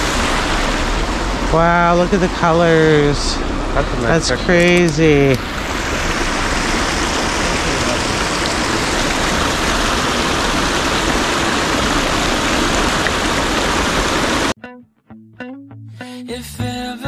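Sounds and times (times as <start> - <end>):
creek water rushing: 0.0 - 14.6.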